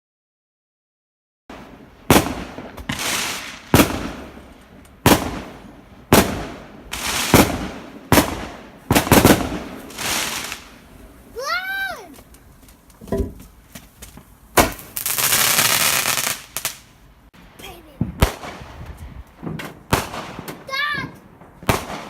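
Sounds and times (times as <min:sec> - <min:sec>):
fireworks banging: 0:01.5 - 0:22.0
fireworks crackling hiss: 0:01.6 - 0:22.0.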